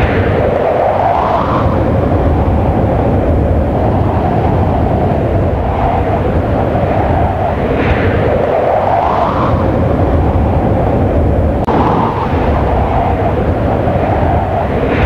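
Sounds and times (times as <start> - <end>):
rushing air whoosh: 0.0 - 15.0.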